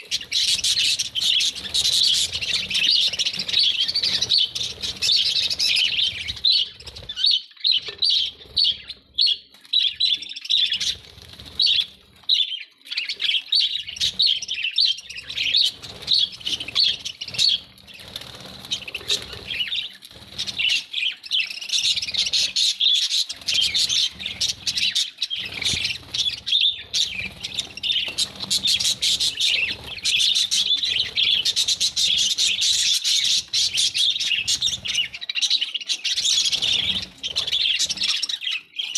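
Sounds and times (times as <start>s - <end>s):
parrots chirping and chattering: 0.0s - 38.9s.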